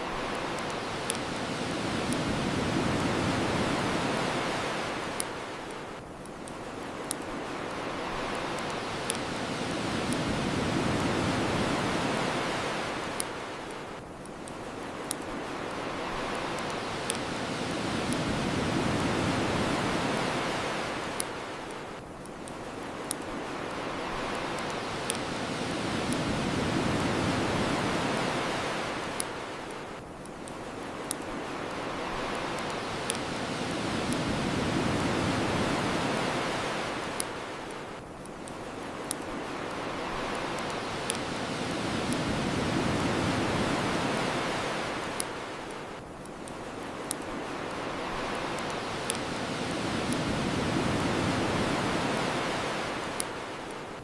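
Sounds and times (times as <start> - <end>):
bonfire crackling and popping: 0.0 - 53.9
ocean waves washing onto shore: 0.0 - 54.0.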